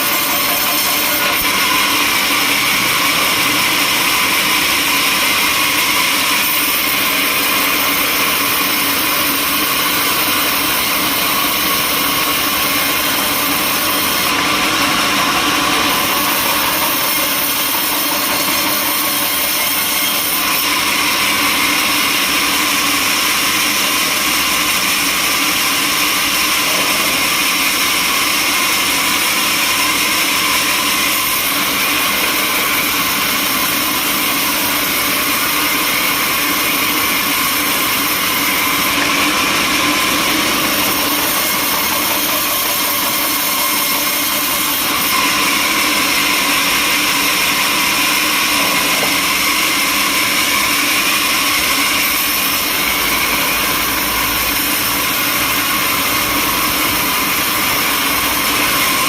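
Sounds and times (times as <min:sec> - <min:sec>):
sawmill saw whining: 0:00.0 - 0:59.0.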